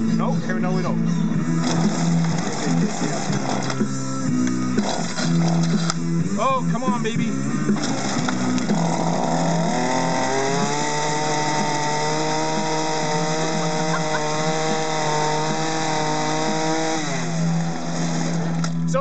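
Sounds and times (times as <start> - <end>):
two-stroke engine revving: 1.3 - 19.0.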